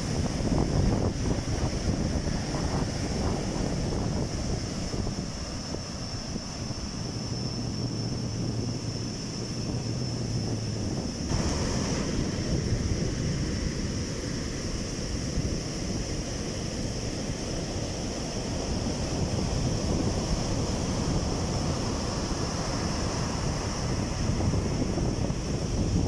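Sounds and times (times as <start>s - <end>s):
sea surf: 0.0s - 26.0s
steady high hiss: 0.0s - 26.0s
wind buffeting microphone: 0.0s - 26.0s.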